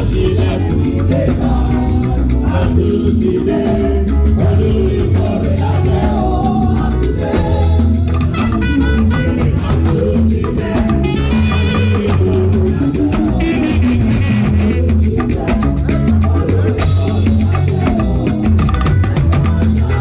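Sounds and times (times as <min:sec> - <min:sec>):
person singing: 0:00.0 - 0:20.0
upbeat music with heavy bass: 0:00.0 - 0:20.0.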